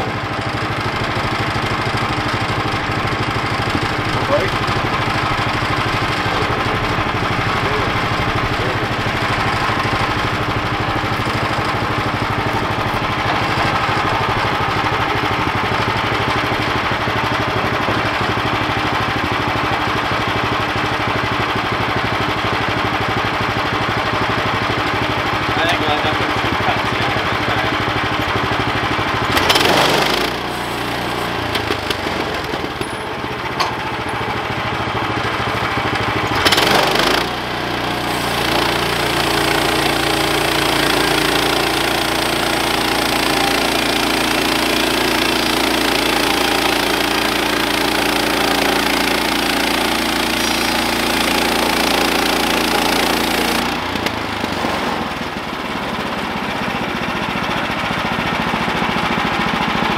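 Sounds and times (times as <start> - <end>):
band saw cutting log: 0.0 - 59.9
small gasoline engine running: 0.0 - 59.9.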